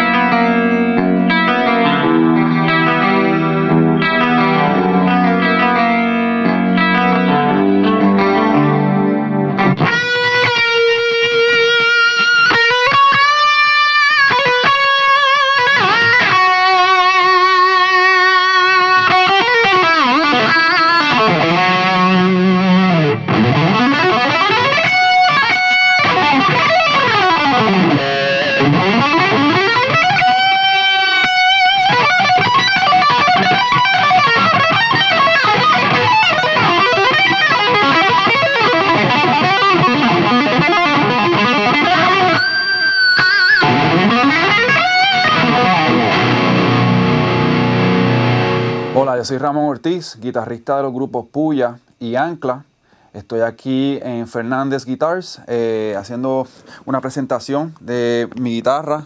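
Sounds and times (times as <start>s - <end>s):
distorted electric guitar: 0.0s - 49.8s.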